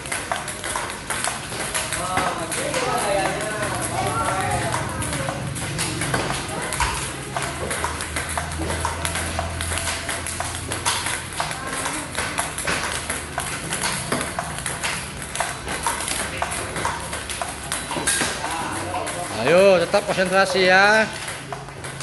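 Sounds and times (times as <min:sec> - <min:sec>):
table tennis balls clicking: 0:00.0 - 0:22.0.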